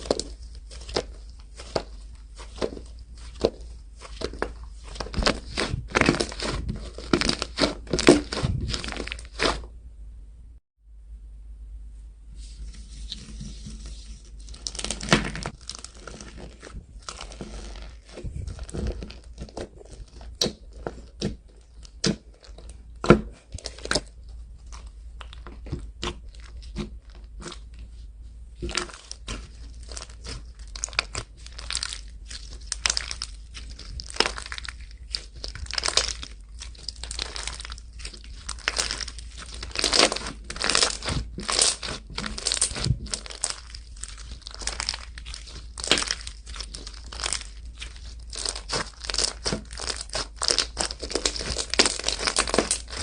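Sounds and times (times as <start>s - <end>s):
slime crackling and popping: 0.0s - 9.7s, 14.4s - 27.8s, 28.6s - 53.0s.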